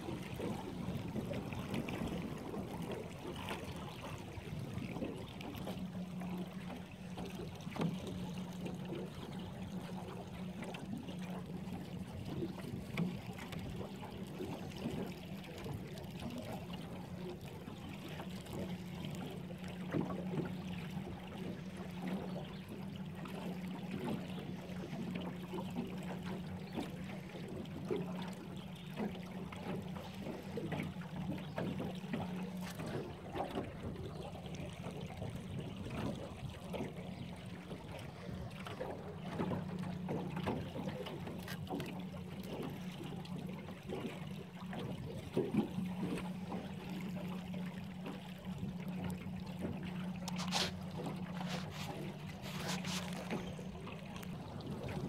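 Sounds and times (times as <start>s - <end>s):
boat motor hum: 0.0s - 55.0s
water splashing against boat hull: 0.0s - 55.0s.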